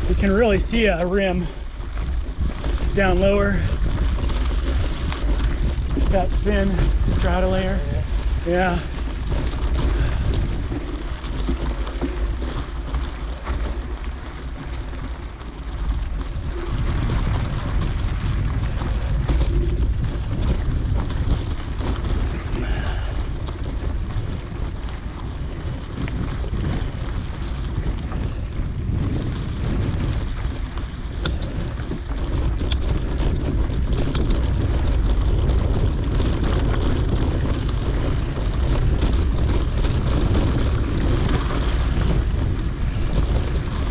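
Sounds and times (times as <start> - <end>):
sharp clicks and rattles: 0.0 - 43.9
tyre noise on dirt: 0.0 - 43.9
wind buffeting microphone: 0.0 - 43.9.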